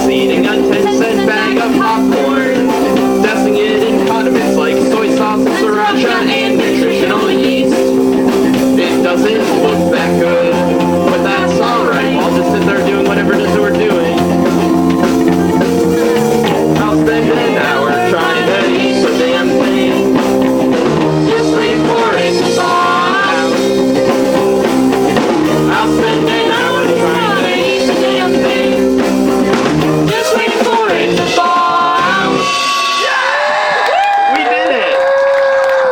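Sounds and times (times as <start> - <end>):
live rock guitar chords: 0.0 - 34.3
bass guitar notes: 0.0 - 34.6.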